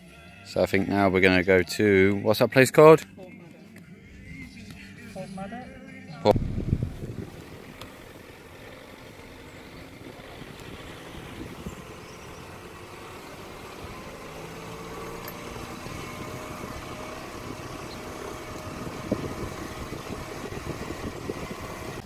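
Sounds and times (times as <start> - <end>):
vehicle engine running: 2.8 - 22.0.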